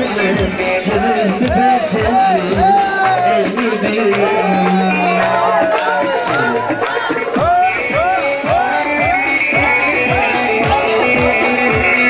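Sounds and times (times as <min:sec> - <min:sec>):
dance music melody: 0:00.0 - 0:12.0
steady drum beat: 0:00.0 - 0:12.0.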